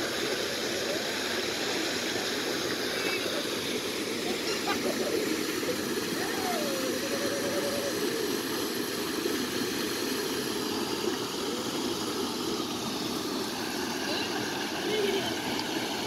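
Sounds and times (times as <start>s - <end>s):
stream running over stones: 0.0s - 16.0s.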